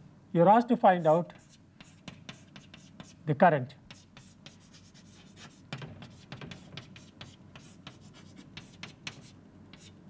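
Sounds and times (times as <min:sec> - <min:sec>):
chalk scratching on blackboard: 0:00.9 - 0:03.2, 0:03.9 - 0:10.0.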